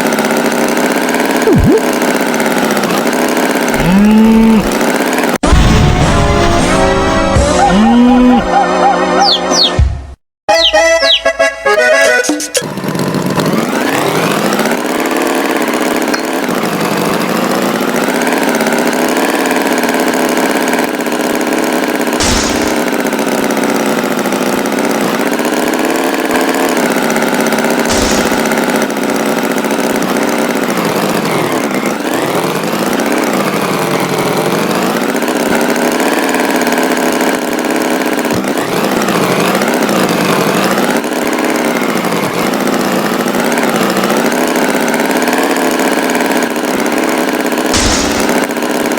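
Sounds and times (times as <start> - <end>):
tractor engine revving: 0.0 - 48.9.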